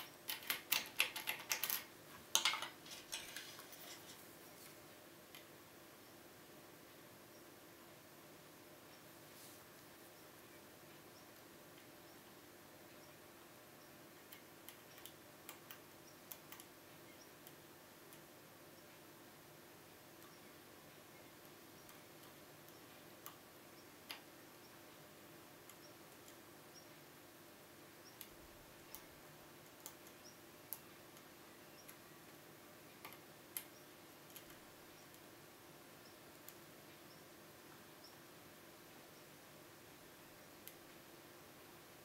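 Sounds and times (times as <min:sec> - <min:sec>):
faint room hum: 0:00.0 - 0:42.0.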